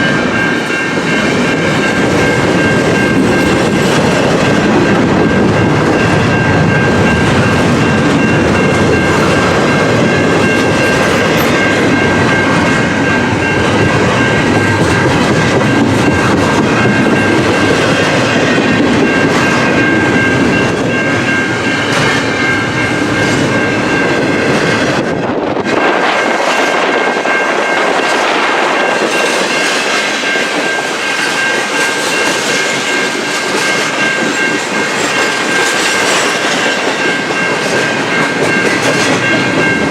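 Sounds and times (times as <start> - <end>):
wheels clacking over rail joints: 0.0 - 26.9, 27.6 - 39.9
deep train rumble: 0.0 - 39.9
high ringing of wheels on rail: 0.0 - 39.9.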